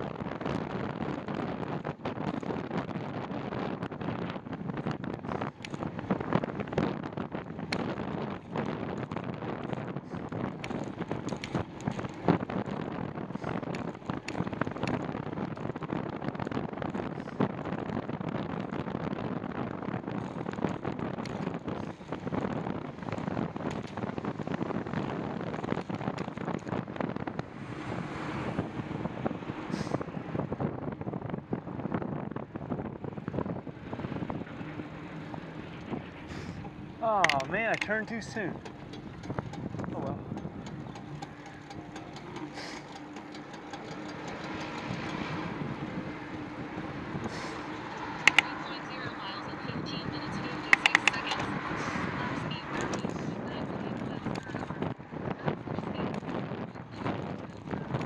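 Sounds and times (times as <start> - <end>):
motor vehicle engine running: 0.0 - 58.0
street traffic rush: 0.0 - 58.0
wind buffeting microphone: 0.0 - 58.0.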